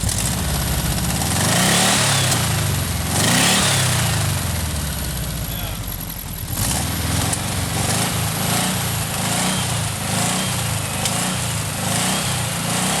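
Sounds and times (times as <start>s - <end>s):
engine running rhythmically: 0.0s - 13.0s.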